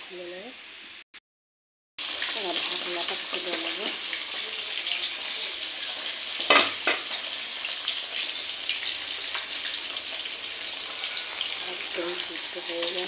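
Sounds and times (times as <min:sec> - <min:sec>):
water boiling hard in a pan: 0:02.0 - 0:13.0.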